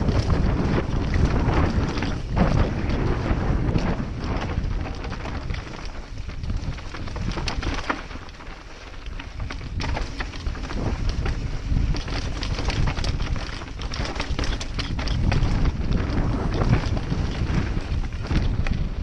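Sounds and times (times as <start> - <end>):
bike clattering over rocks: 0.0 - 19.0
tyres crunching on loose stones: 0.0 - 19.0
wind rumbling on microphone: 0.0 - 19.0.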